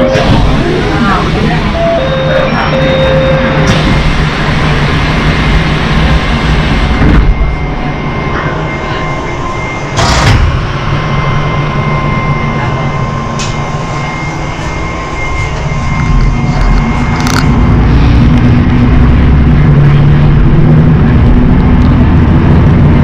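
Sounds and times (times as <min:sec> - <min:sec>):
railcar diesel engine running: 0:00.0 - 0:23.0.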